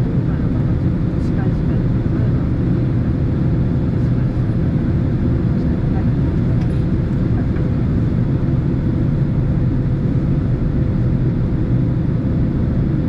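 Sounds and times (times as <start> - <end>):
airliner engines and airflow rumble: 0.0 - 13.0.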